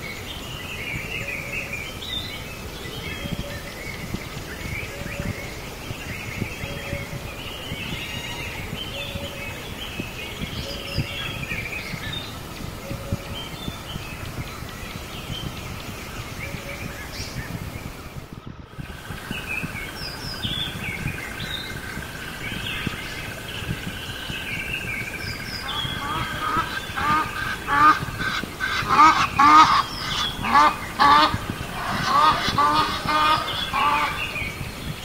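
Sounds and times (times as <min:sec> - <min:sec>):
birds chirping: 0:00.0 - 0:35.0
outdoor background noise: 0:00.0 - 0:35.0.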